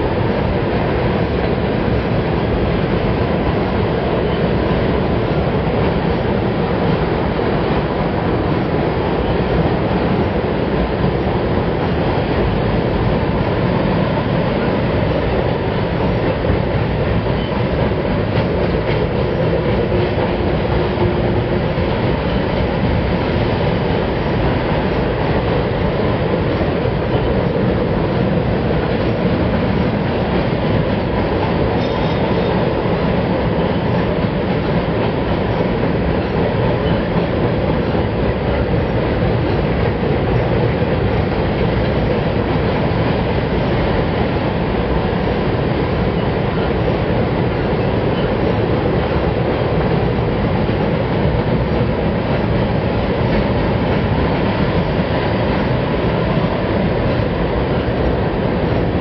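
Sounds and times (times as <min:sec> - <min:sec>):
freight train cars rumbling past: 0:00.0 - 0:59.0.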